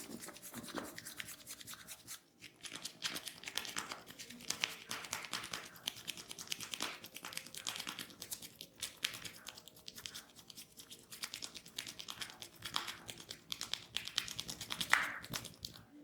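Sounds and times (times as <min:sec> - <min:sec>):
fingers scratching through hair: 0:00.0 - 0:15.8.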